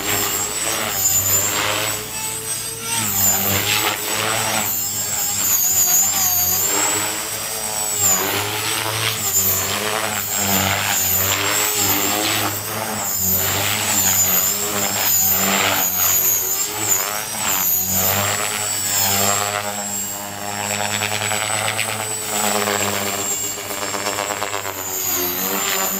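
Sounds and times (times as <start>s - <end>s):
rc helicopter motor whine: 0.0s - 25.9s
rotors buzzing: 0.0s - 25.9s.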